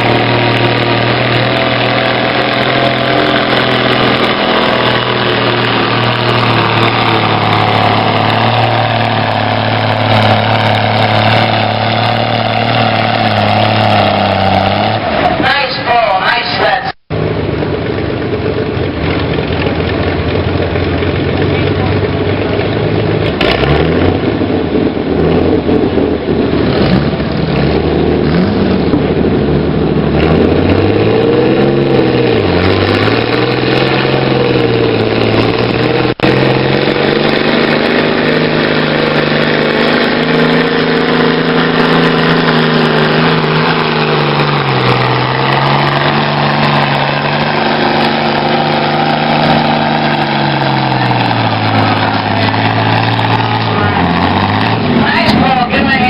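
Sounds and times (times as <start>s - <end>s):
tractor engine revving hard: 0.0s - 56.0s.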